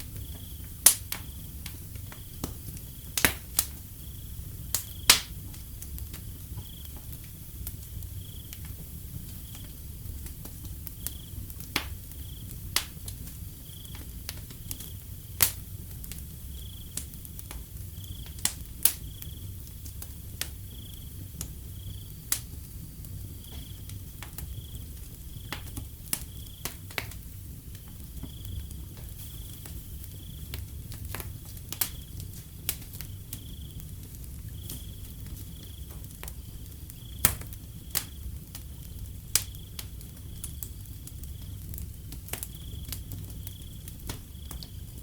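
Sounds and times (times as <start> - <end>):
crickets chirping: 0.0 - 45.0
wood fire crackling: 0.0 - 45.0.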